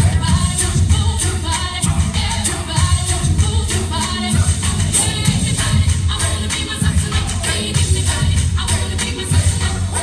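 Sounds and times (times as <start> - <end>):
song with singing over beat: 0.0 - 10.0.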